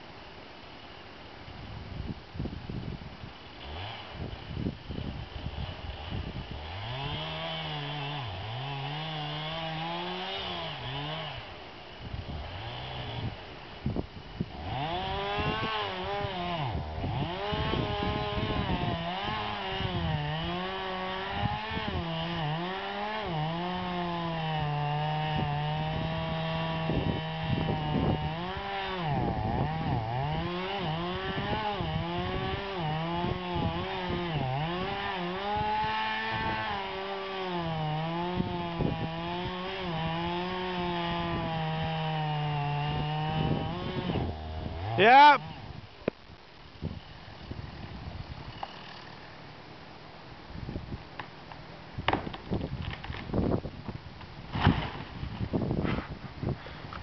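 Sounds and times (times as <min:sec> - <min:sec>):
chainsaw cutting wood: 0:02.7 - 0:49.5, 0:50.6 - 0:57.0.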